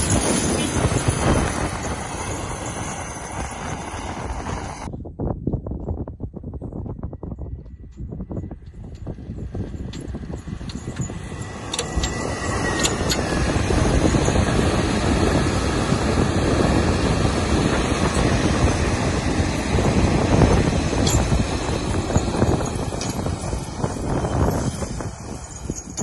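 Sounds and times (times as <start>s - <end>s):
loader diesel engine under load: 0.0s - 4.9s, 8.7s - 26.0s.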